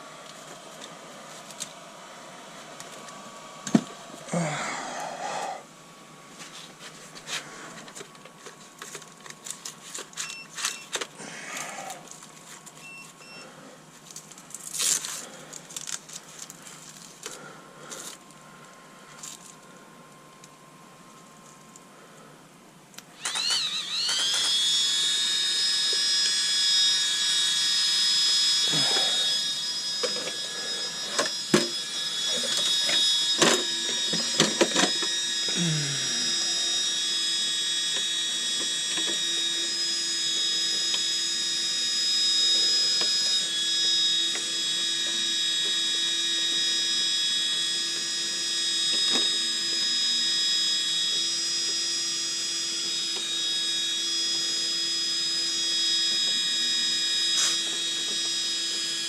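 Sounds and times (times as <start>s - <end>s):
high-pitched electric whine: 0.0s - 22.1s, 23.0s - 59.0s.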